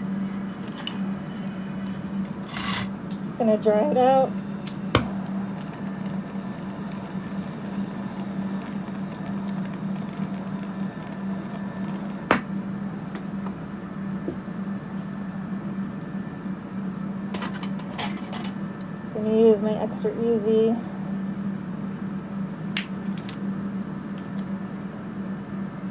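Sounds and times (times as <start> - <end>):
constant low hum: 0.0 - 25.9
electric fans whirring: 0.0 - 25.9.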